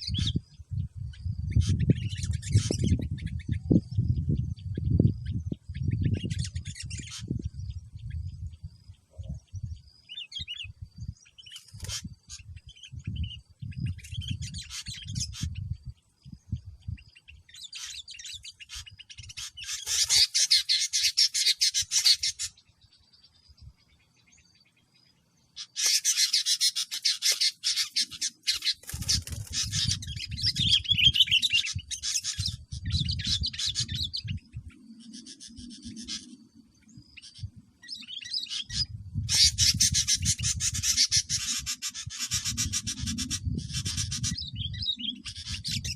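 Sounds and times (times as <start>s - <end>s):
birds chattering and chirping: 0.0s - 45.9s.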